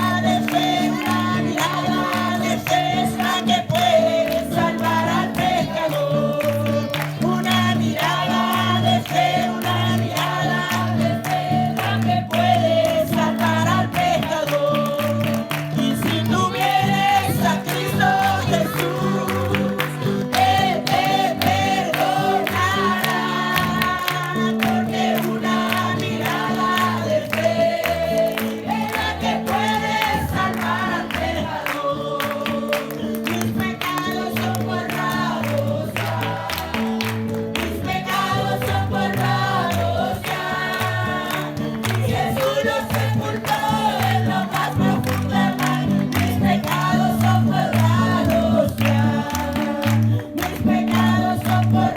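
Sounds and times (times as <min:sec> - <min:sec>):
group singing worship songs: 0:00.0 - 0:51.9
percussion: 0:00.0 - 0:51.9.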